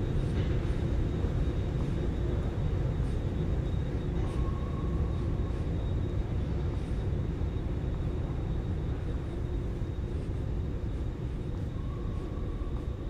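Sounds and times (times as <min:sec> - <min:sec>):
low rumble of city traffic: 0:00.0 - 0:13.0.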